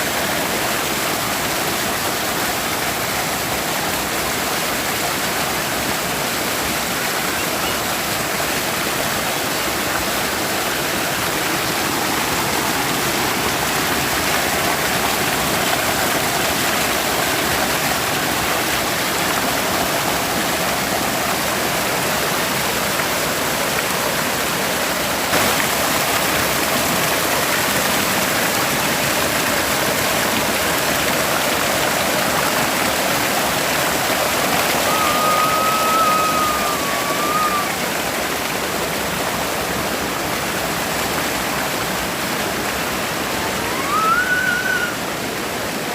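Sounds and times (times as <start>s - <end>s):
stream splashing over rocks: 0.0s - 45.9s.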